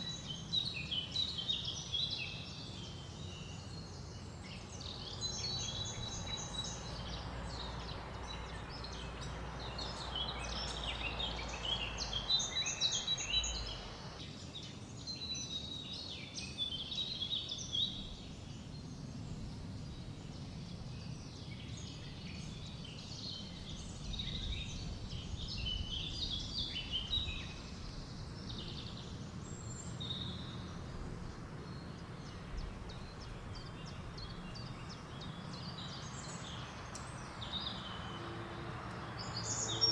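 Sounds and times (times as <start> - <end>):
songbirds chirping and trilling: 0.0 - 39.9
wind in trees: 0.0 - 39.9.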